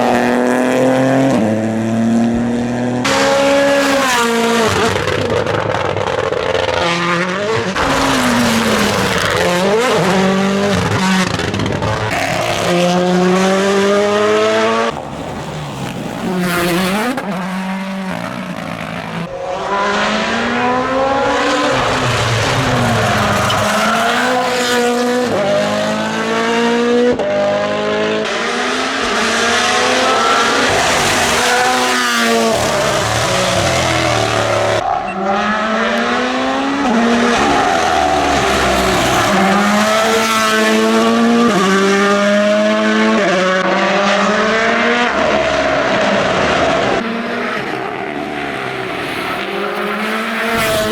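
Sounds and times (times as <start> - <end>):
rally cars revving and passing: 0.0 - 50.9.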